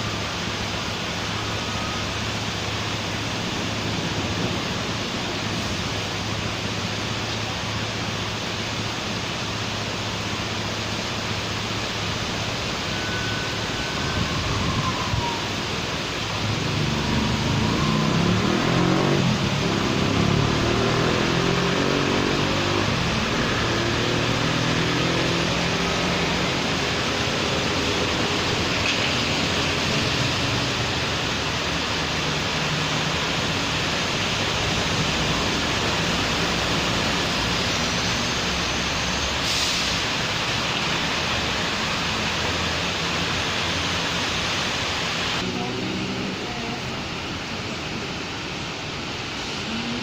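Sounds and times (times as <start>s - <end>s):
passing traffic hiss: 0.0s - 50.0s
rain falling on street: 0.0s - 50.0s
vehicle engine humming past: 0.0s - 50.0s.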